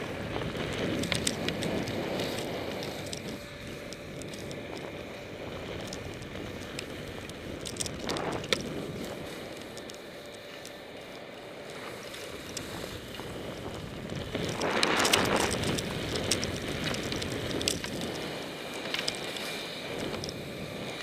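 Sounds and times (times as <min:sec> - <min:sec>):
wind noise on microphone: 0:00.0 - 0:10.4, 0:11.2 - 0:21.0
skis hissing over snow: 0:00.0 - 0:21.0.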